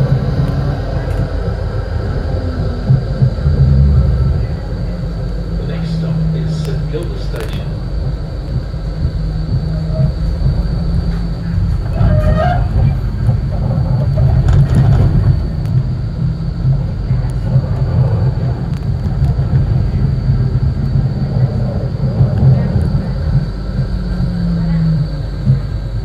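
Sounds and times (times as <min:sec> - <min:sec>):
tram wheels rumbling: 0:00.0 - 0:26.0.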